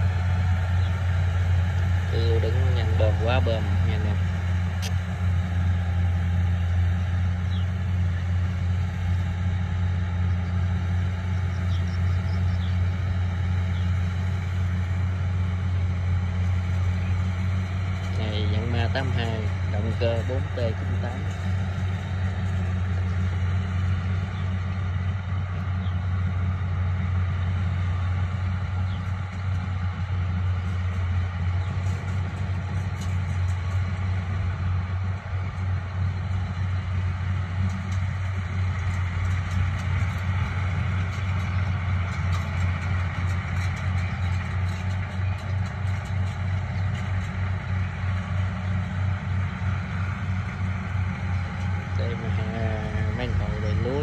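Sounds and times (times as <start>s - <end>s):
combine harvester diesel engine drone: 0.0s - 54.0s.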